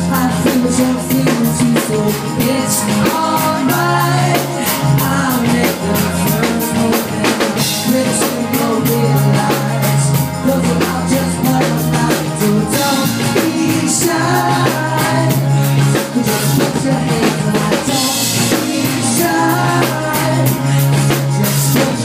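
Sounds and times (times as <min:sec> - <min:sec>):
bass line: 0:00.0 - 0:22.0
drum kit beat: 0:00.0 - 0:22.0
man singing into microphone: 0:00.0 - 0:22.0.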